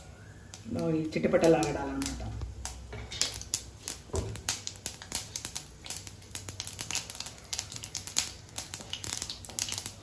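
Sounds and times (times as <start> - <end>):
faint oil sizzle: 0.0 - 10.0
mustard seeds popping in oil: 0.0 - 10.0.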